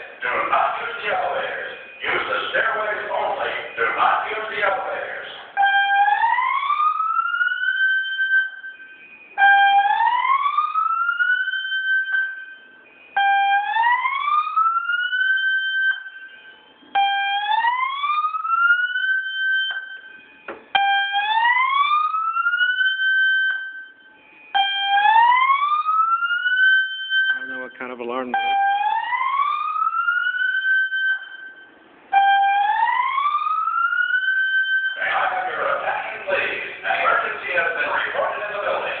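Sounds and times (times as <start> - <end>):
fire alarm whoop tone: 0.0 - 38.9.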